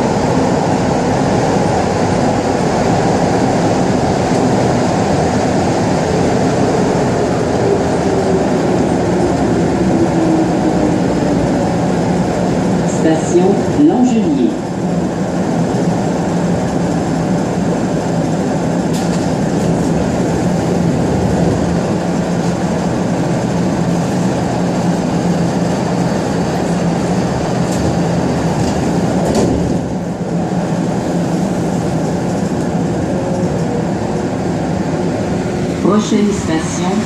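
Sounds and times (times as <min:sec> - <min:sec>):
metro car running noise: 0:00.0 - 0:37.0.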